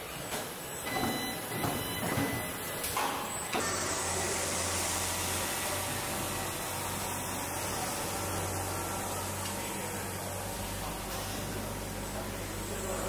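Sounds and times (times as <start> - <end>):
low machinery hum: 0.0 - 13.0
factory hiss: 2.2 - 13.0.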